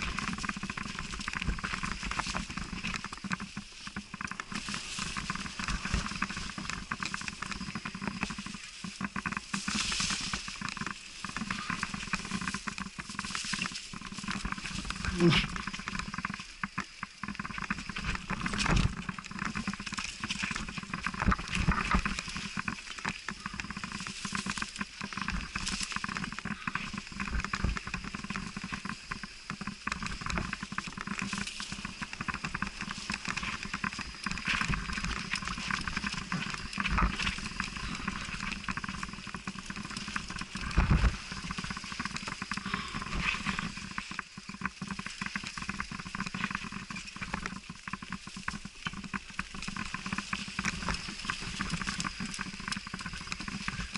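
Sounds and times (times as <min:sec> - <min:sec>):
bike rattling and knocking: 0:00.0 - 0:53.9
steady rush of noise: 0:00.0 - 0:53.9.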